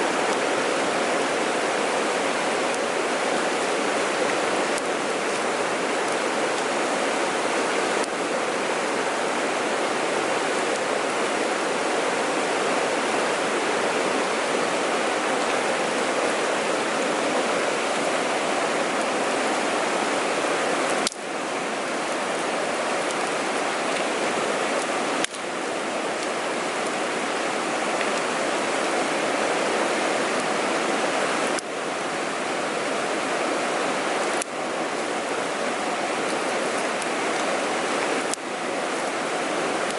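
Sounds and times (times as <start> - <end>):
water rushing in a stream: 0.0 - 39.9.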